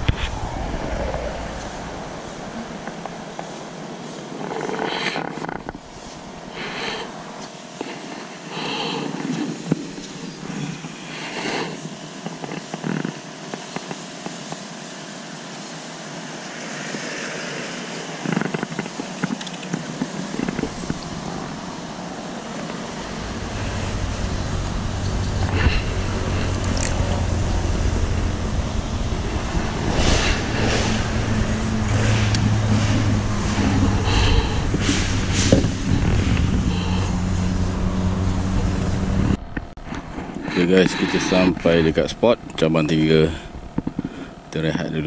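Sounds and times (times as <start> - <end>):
low steady motor rumble: 0.0 - 45.0.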